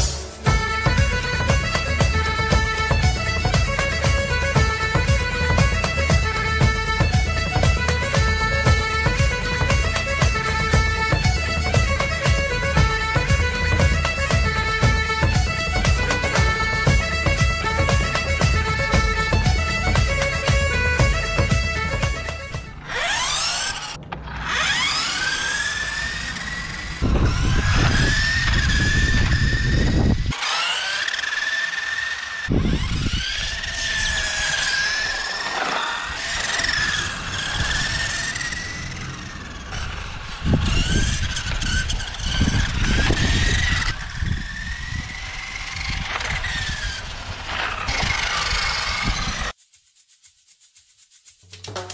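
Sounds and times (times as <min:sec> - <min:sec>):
toy car electric motors whining: 0:00.0 - 0:49.6.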